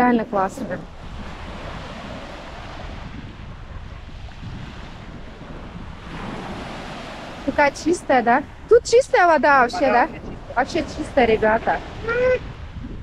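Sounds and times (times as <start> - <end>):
small waves washing: 0.0 - 12.8
wind rumbling on microphone: 0.0 - 13.0.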